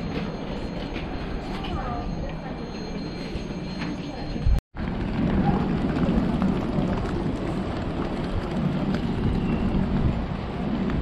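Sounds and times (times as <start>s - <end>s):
moving vehicle rumble: 1.0s - 11.0s.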